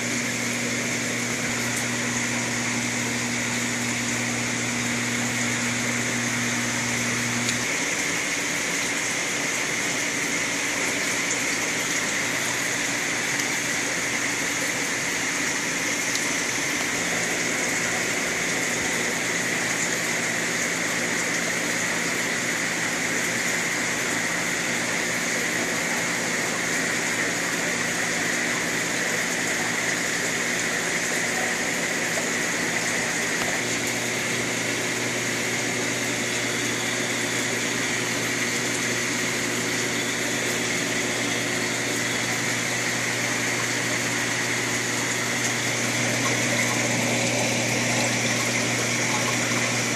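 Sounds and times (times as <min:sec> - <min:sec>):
low hum of pumps: 0:00.0 - 0:49.9
running water rushing: 0:00.0 - 0:49.9.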